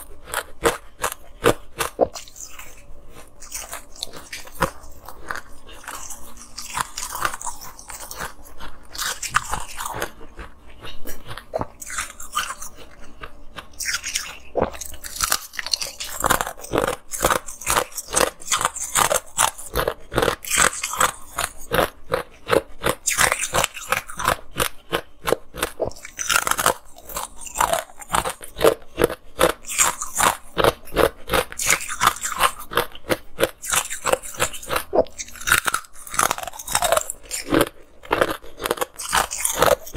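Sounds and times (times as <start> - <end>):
biting and chewing ice bars: 0.0 - 39.9.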